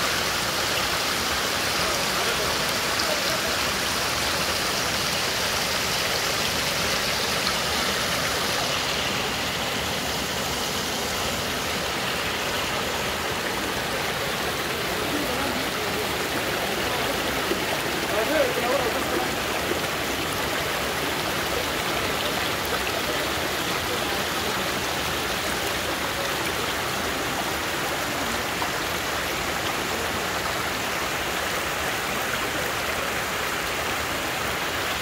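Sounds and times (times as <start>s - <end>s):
stream rushing over boulders: 0.0s - 35.0s.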